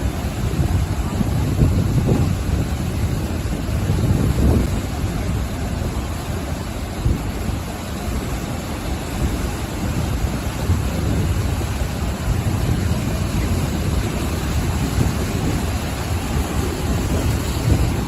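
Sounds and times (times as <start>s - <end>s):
ocean waves breaking on shore: 0.0s - 18.0s
wind buffeting microphone: 0.0s - 18.0s.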